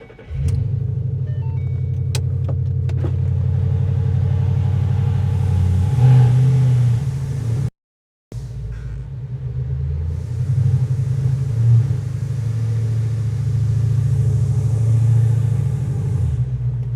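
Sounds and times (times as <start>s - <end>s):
car engine idling: 0.0s - 7.7s, 8.3s - 16.9s.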